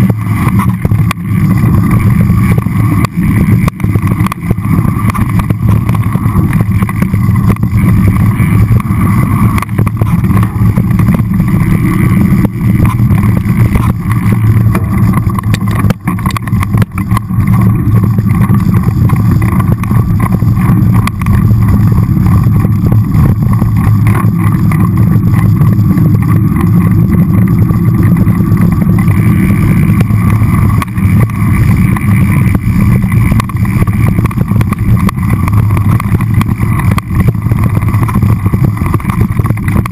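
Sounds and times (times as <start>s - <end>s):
bike knocks and rattles: 0.0s - 39.9s
bike tyre rumble: 0.0s - 39.9s
wind rush: 0.0s - 39.9s.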